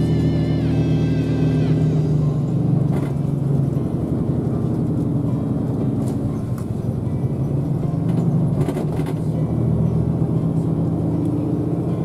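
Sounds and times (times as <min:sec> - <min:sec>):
bus engine hum: 0:00.0 - 0:12.0
drivetrain whine: 0:00.0 - 0:12.0.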